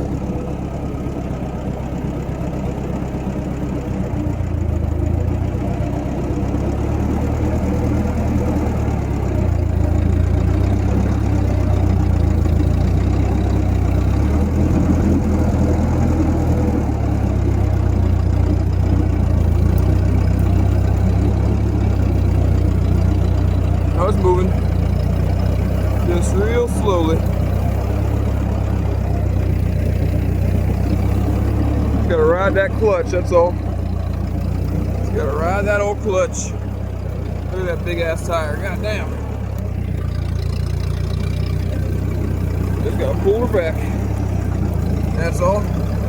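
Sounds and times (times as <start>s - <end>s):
tractor engine under load: 0.0s - 46.0s.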